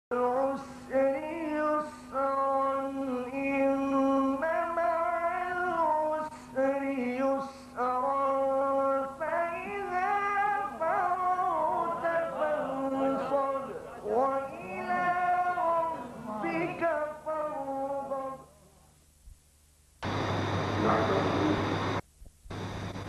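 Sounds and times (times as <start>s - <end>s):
person singing: 0.1s - 18.6s.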